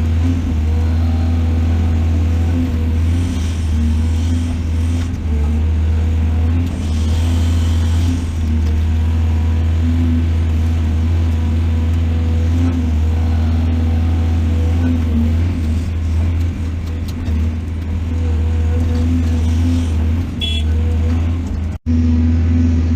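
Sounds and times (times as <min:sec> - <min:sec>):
diesel engine droning: 0:00.0 - 0:22.9.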